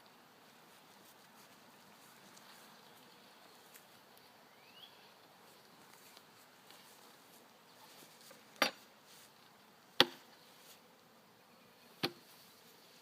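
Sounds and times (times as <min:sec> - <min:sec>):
faint hum of bees: 0:00.0 - 0:13.0.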